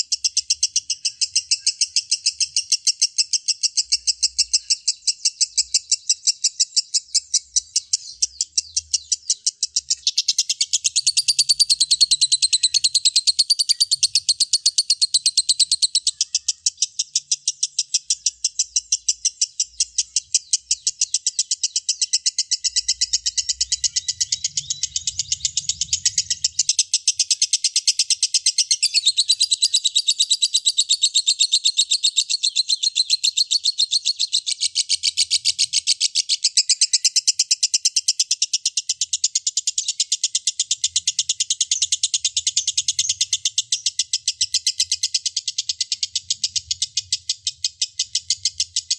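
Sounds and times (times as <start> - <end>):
lovebird chattering: 0.0 - 48.9.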